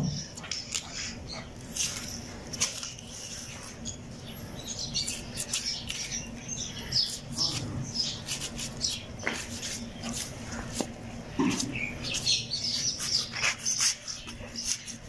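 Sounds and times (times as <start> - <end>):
steady low hum: 0.0 - 15.0
knife scraping hide: 0.4 - 4.0, 4.9 - 15.0.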